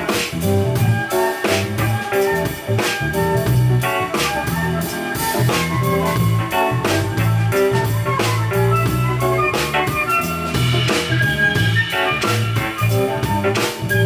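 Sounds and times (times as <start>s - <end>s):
bass playing low notes: 0.0s - 14.0s
drum kit keeping time: 0.0s - 14.0s
keyboard chords: 0.0s - 14.0s.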